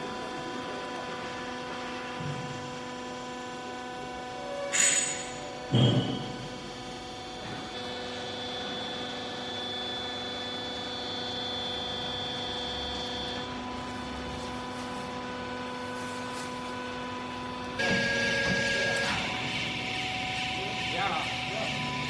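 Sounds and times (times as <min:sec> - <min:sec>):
electric pump motor humming: 0:00.0 - 0:22.0.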